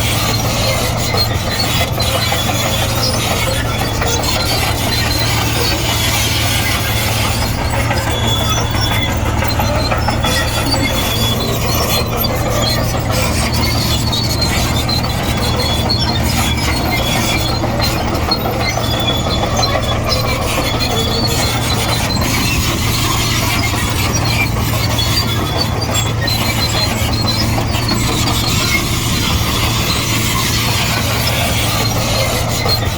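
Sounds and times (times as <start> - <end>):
diesel engine under load: 0.0 - 32.9
steel tracks squealing: 0.0 - 32.9.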